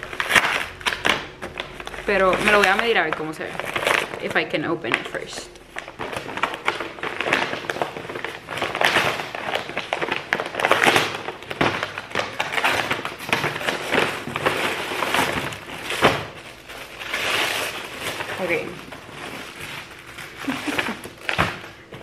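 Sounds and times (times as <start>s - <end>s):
package being torn open: 0.0s - 2.9s, 5.7s - 21.8s
package wrapping crinkling: 0.0s - 22.0s.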